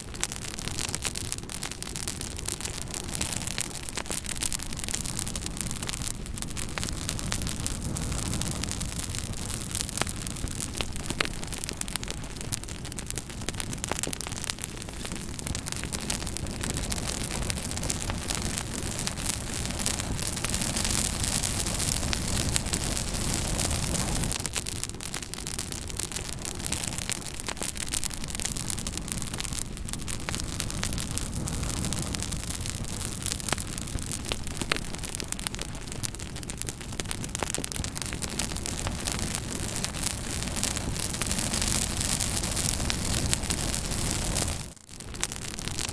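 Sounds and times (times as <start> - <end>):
fire crackling: 0.0 - 45.9.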